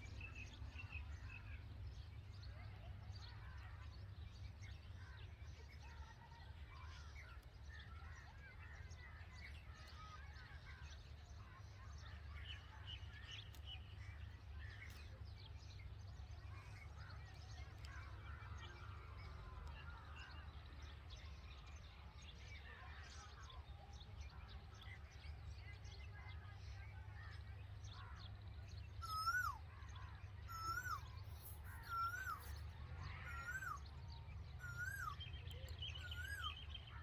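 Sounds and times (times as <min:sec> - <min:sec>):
birds chirping: 0:07.2 - 0:37.0.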